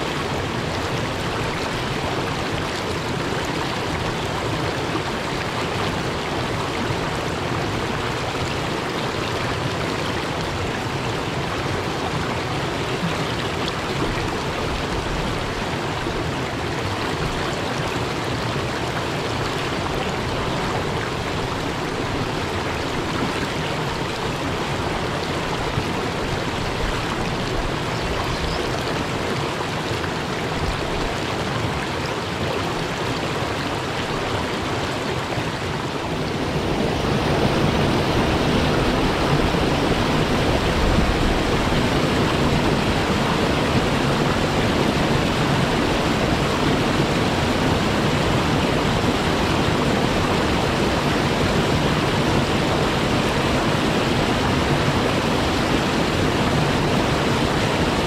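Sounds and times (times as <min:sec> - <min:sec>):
stream rushing over boulders: 0:00.0 - 0:58.0.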